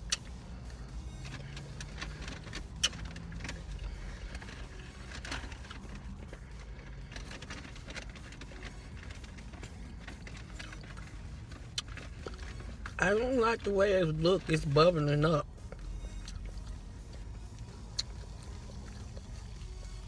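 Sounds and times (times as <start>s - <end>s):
car idling inside cabin: 0.0s - 20.0s.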